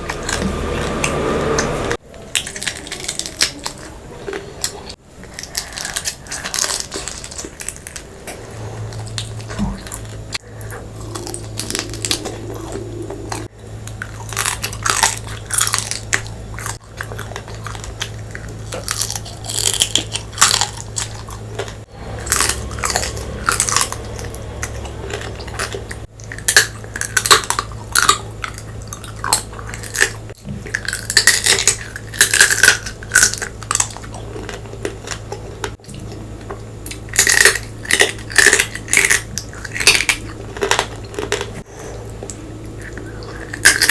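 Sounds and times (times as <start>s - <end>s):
steady low hum: 0.0s - 43.9s
wet chewing and crunching: 0.0s - 43.9s.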